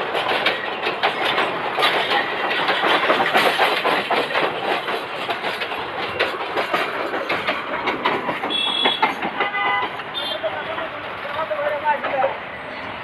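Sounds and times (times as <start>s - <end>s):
train wheels clattering on rail joints: 0.0s - 13.0s.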